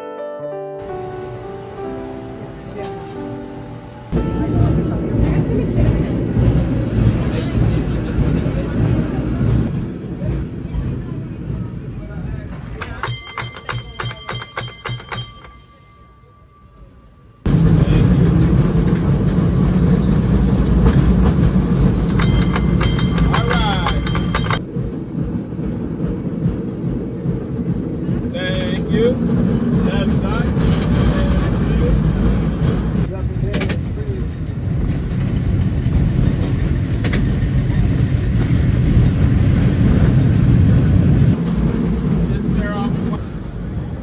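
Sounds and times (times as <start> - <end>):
cable car rumbling: 0.9 - 44.0.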